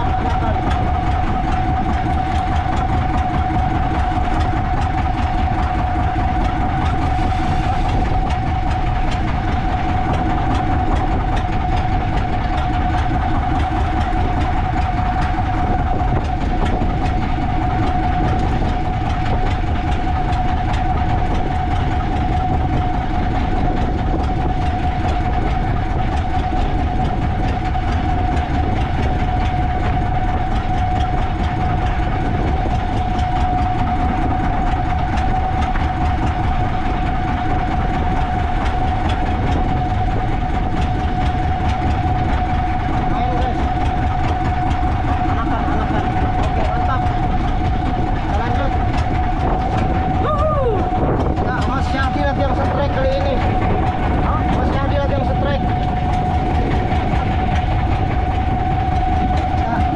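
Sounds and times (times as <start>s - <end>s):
boat engine running: 0.0s - 59.9s
steady high whine: 0.0s - 59.9s.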